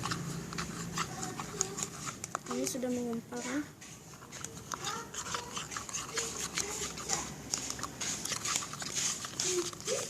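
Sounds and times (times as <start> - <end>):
spoon stirring sticky slime: 0.0 - 10.0.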